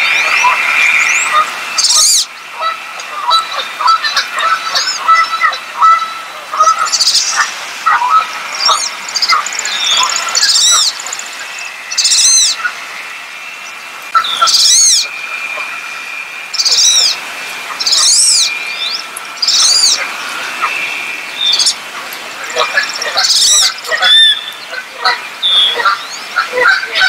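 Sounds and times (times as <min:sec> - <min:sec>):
duck whistling calls: 0:00.0 - 0:21.8, 0:22.4 - 0:27.0.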